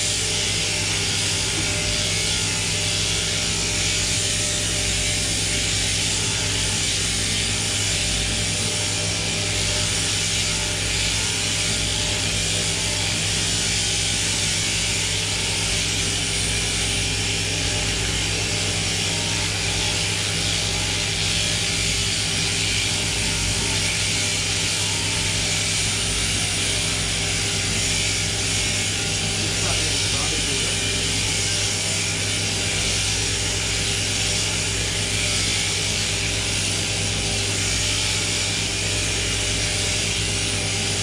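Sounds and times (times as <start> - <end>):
electric shears buzzing: 0.0 - 41.0.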